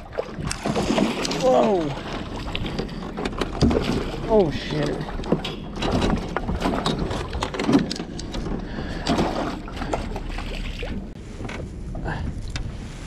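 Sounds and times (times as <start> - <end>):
water splashing against boat hull: 0.0 - 11.2.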